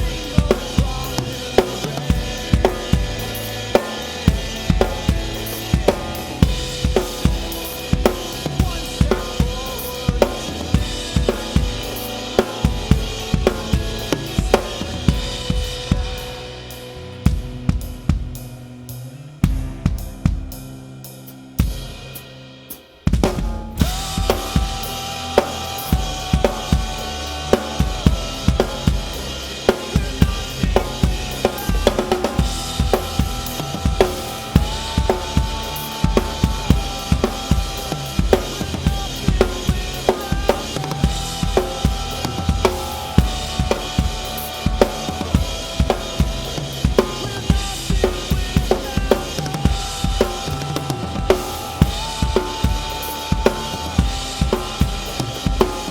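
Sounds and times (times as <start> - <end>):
song backing track: 0.0 - 55.9.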